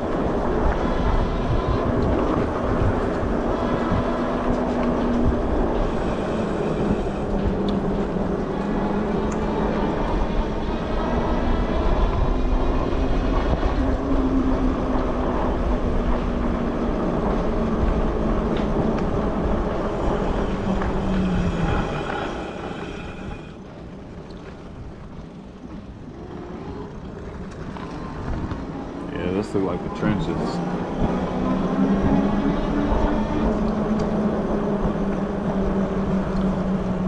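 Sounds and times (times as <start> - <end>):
bike tyres on asphalt: 0.0 - 37.0
wind rushing on microphone: 0.0 - 37.0.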